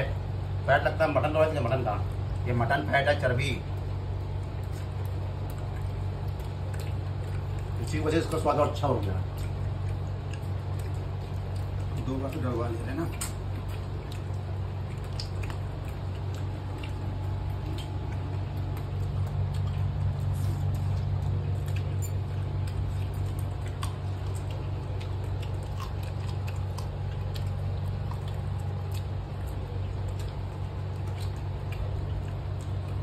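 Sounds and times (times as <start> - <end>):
soft chewing: 0.0 - 33.0
steady low hum: 0.0 - 33.0.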